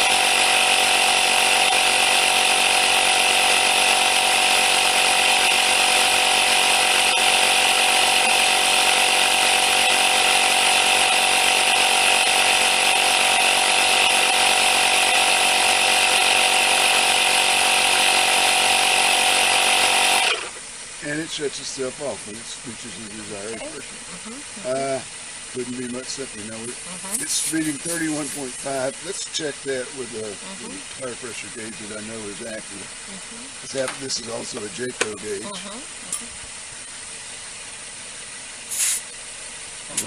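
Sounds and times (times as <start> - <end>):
tire inflator compressor running: 0.0 - 40.0.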